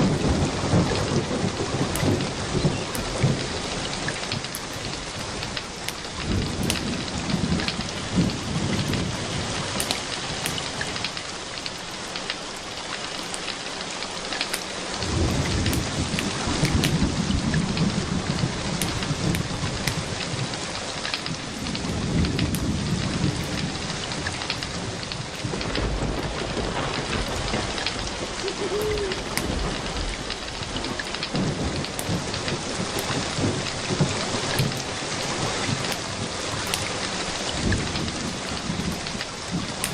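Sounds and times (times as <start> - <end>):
low rolls of thunder: 0.0 - 11.2, 15.0 - 39.9
steady rain: 0.0 - 39.9
wood fire crackling: 0.0 - 39.9.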